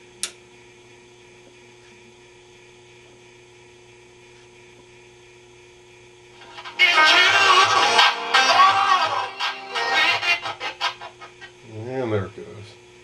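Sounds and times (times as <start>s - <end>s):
television mains hum: 0.0s - 13.0s.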